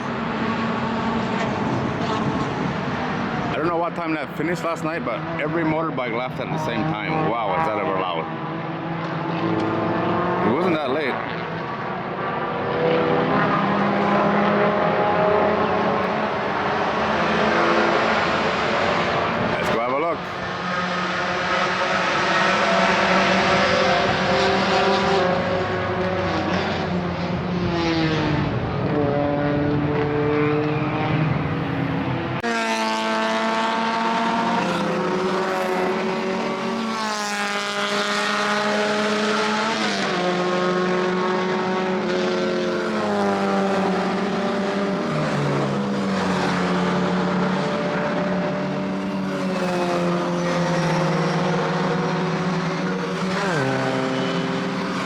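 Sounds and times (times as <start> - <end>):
racing car engines revving: 0.0 - 55.0.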